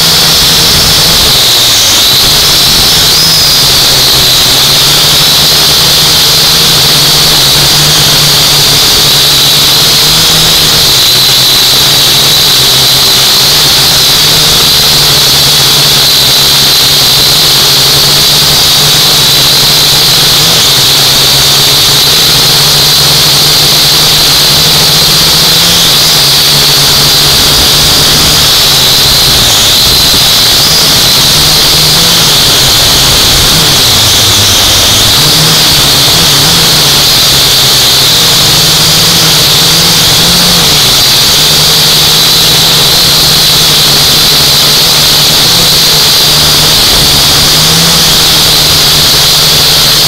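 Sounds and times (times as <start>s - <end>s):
drone propellers whining: 0.0s - 50.0s.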